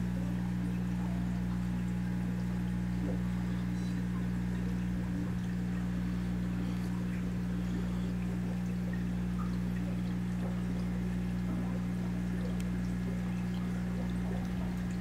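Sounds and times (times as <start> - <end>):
aquarium filter hum: 0.0 - 15.0.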